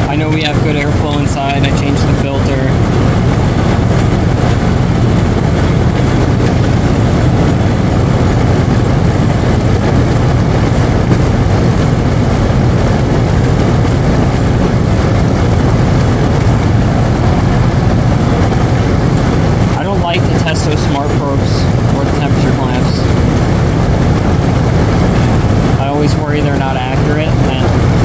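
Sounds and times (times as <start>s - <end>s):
air conditioner condenser humming: 0.0s - 28.0s.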